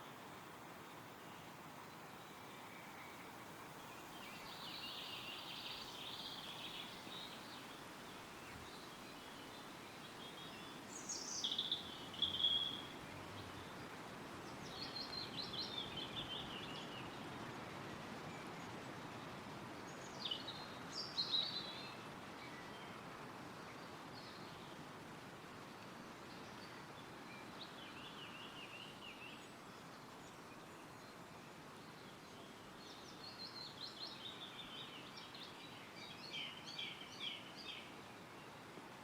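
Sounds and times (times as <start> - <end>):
songbirds singing: 0.0 - 24.8, 25.6 - 38.8
wind rustling through trees: 0.0 - 39.0.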